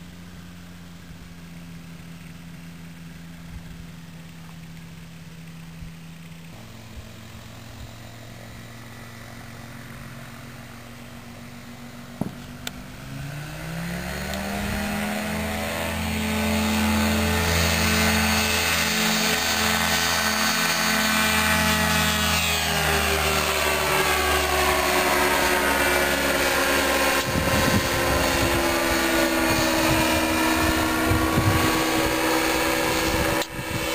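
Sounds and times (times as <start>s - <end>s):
microlight engine and propeller: 0.0s - 33.9s.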